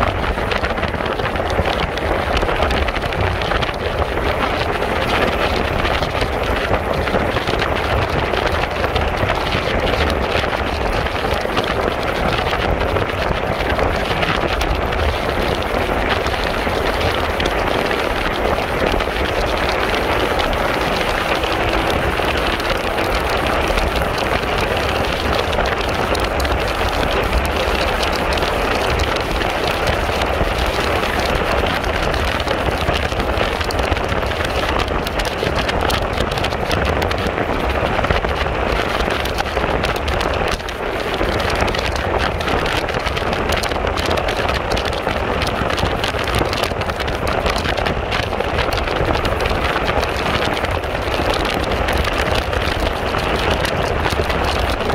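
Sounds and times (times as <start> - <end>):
motorbike road noise: 0.0 - 54.9
wind buffeting microphone: 0.0 - 54.9.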